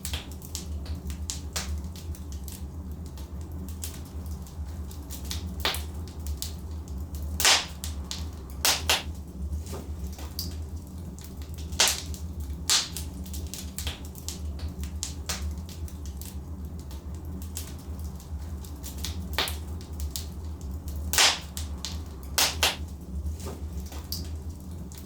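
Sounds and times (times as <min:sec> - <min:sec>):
fire low rumble: 0:00.0 - 0:25.0
logs crackling and popping: 0:00.0 - 0:25.0.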